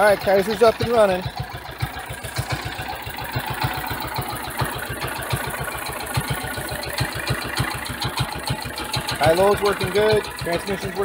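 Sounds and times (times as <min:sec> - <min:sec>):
garden tractor engine idling: 0:00.0 - 0:11.0.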